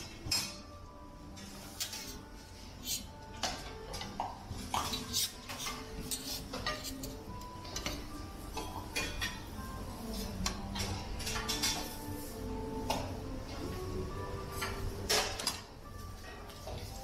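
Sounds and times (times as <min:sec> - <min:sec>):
plates and cutlery clinking: 0:00.0 - 0:17.0.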